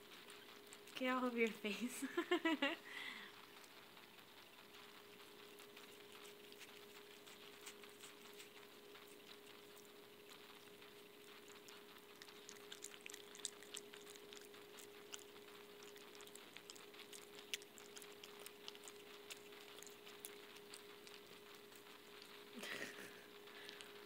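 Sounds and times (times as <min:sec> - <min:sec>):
faint steady hum: 0:00.0 - 0:24.0
animal chewing wet smacks: 0:02.8 - 0:24.0.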